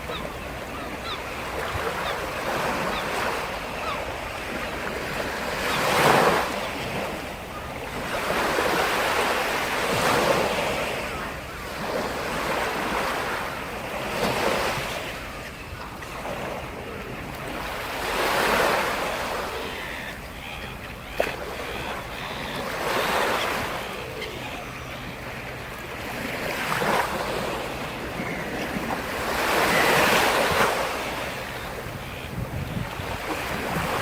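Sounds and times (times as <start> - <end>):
waves breaking on shore: 0.0 - 34.0.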